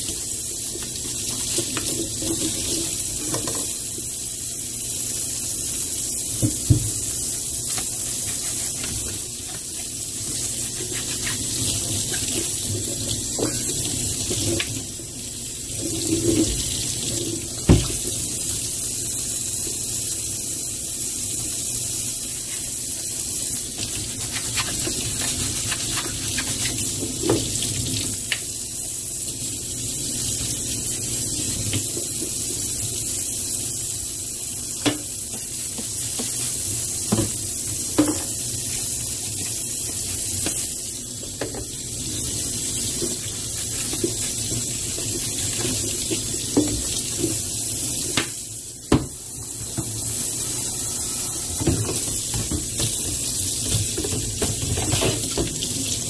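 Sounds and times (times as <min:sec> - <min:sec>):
tap water running into sink: 0:00.0 - 0:04.2, 0:06.2 - 0:18.8, 0:22.2 - 0:33.4, 0:34.0 - 0:56.0.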